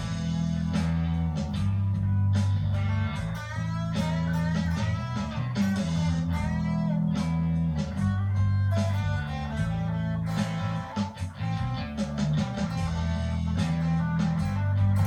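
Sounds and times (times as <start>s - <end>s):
electric guitar bending notes: 0.0s - 15.0s
steady bass line: 0.0s - 15.0s.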